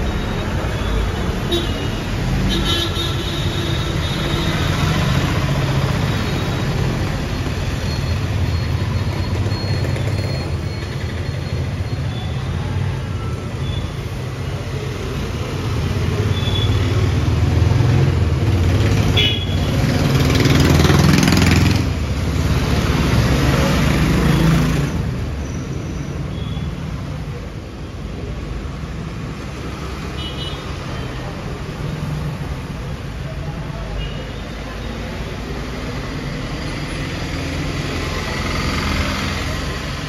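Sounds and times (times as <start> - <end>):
vehicles passing on street: 0.0 - 40.0.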